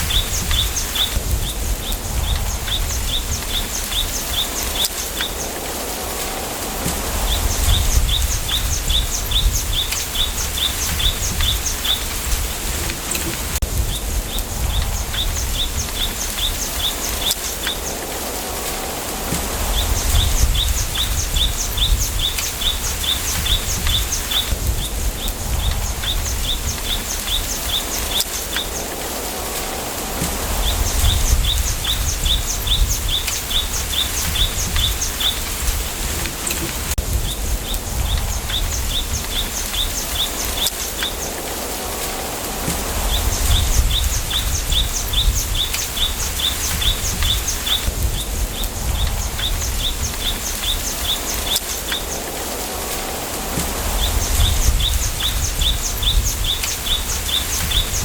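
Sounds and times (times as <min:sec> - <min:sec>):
leaves rustling: 0:00.0 - 0:58.0
wind through bamboo: 0:00.0 - 0:58.0.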